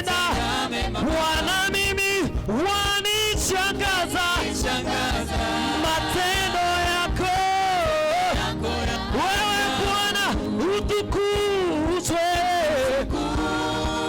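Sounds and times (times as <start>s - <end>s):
band accompaniment: 0.0s - 14.0s
people singing gospel song: 0.0s - 14.0s.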